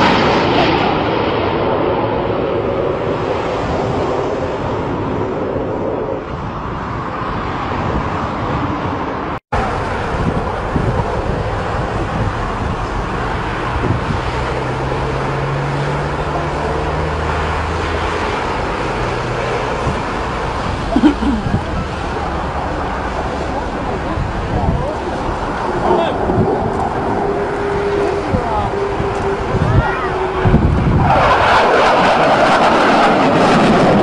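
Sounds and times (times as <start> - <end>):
fighter jet passing overhead: 0.0 - 34.0.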